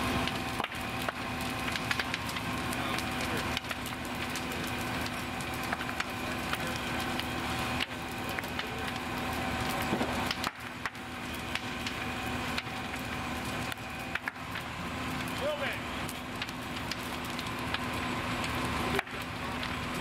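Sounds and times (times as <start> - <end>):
fire crackling and popping: 0.0 - 20.0
fire engine pump drone: 0.0 - 20.0.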